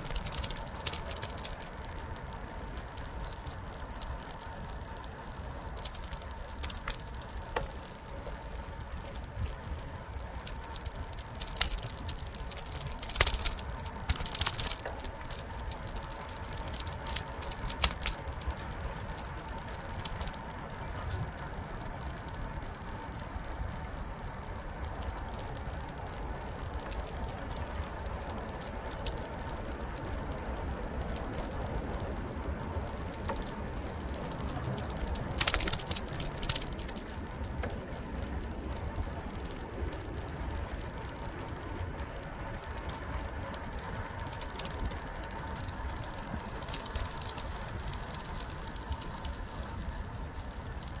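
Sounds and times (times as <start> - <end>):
bicycle rolling on pavement: 0.0 - 51.0
sharp clicks: 0.0 - 51.0.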